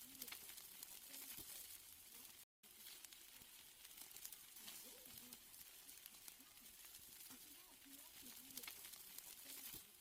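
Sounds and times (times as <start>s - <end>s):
steaks sizzling on a grill: 0.0s - 10.0s.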